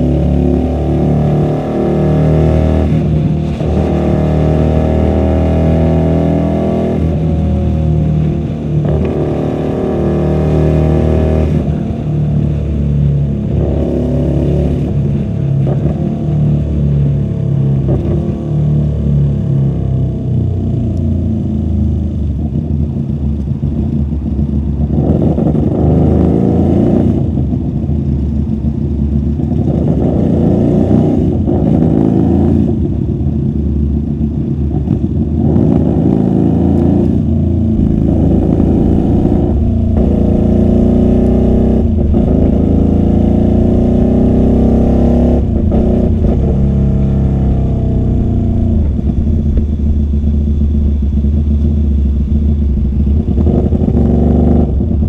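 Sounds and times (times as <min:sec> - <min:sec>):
muffled motorcycle engine accelerating: 0:00.0 - 0:55.0.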